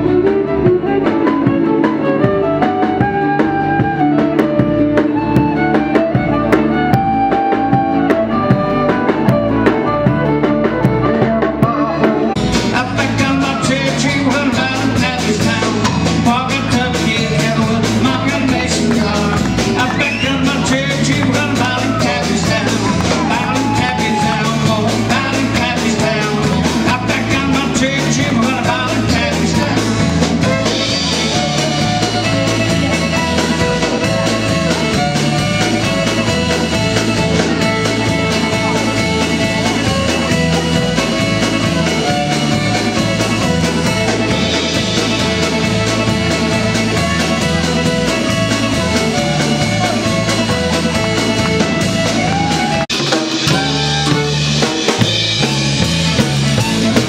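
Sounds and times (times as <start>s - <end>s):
bass: 0.0s - 57.0s
drums and cymbals: 0.0s - 57.0s
fiddle playing lead: 0.0s - 57.0s
person singing: 11.0s - 57.0s.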